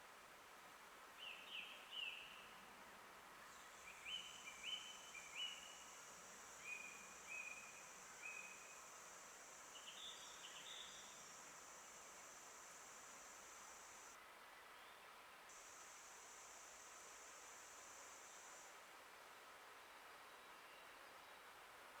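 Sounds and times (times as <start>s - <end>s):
steady high-pitched hiss: 0.0s - 22.0s.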